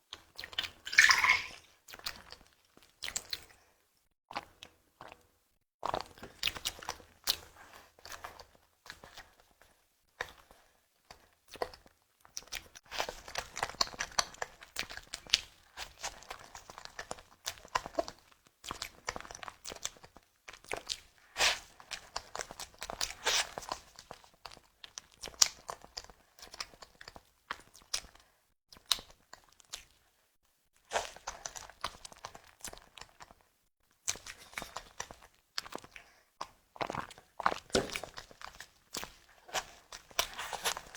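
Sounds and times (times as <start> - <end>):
chewing and mouth sounds: 0.1 - 3.7, 4.3 - 30.2, 30.8 - 40.9.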